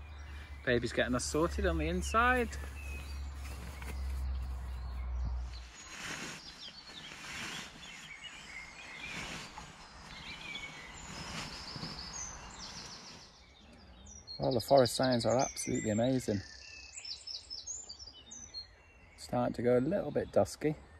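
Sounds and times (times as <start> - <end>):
birds chirping and calling: 0.0 - 20.7.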